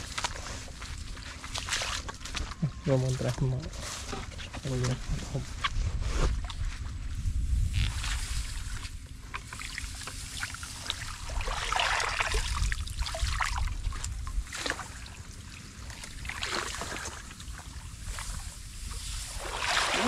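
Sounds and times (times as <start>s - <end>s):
muddy water sloshing and splashing: 0.0s - 20.0s.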